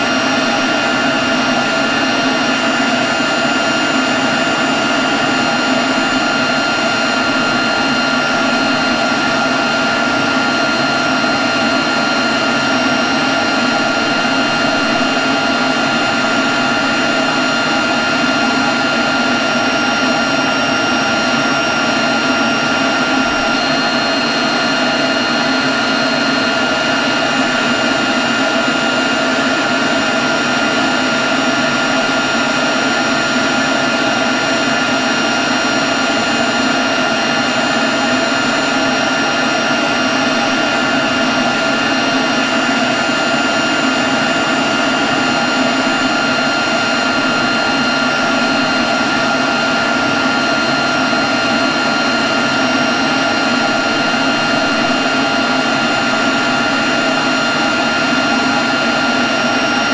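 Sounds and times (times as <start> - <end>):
leaf blower running: 0.0 - 59.9.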